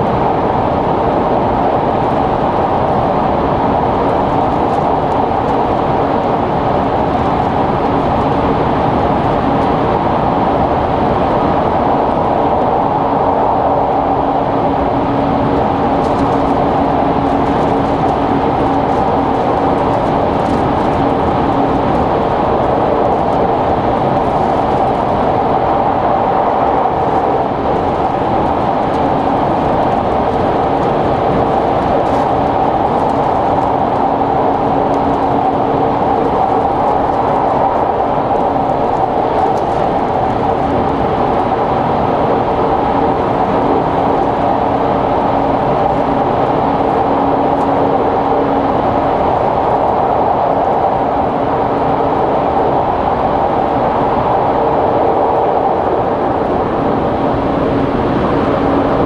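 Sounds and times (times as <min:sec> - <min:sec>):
train running noise inside car: 0:00.0 - 0:59.0.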